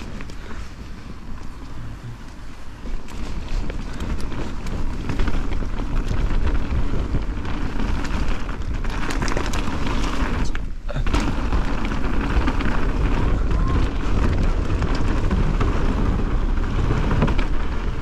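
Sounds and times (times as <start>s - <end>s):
bike tyres rolling over dirt and stones: 0.0s - 18.0s
wind rumble on microphone: 0.0s - 18.0s.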